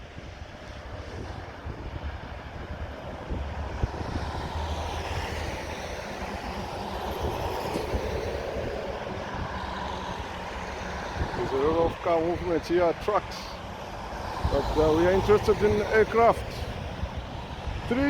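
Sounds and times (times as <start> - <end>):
passing vehicle engines rumbling: 0.0 - 18.0.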